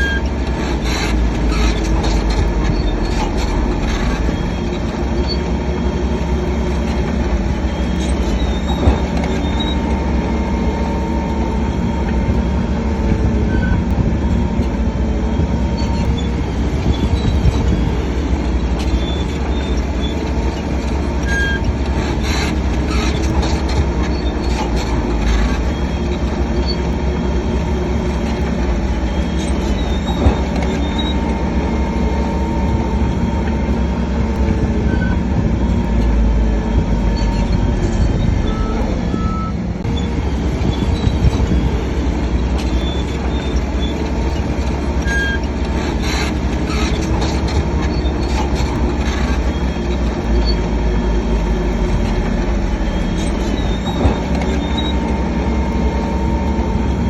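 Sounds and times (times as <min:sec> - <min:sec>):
diesel engine running under load: 0:00.0 - 0:57.0
metallic squeaks and clanks: 0:00.0 - 0:57.0.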